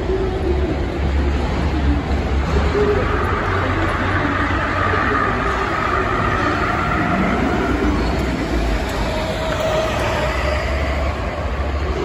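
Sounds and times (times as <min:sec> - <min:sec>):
crowd din: 0:00.0 - 0:12.0
hall rumble: 0:00.0 - 0:12.0.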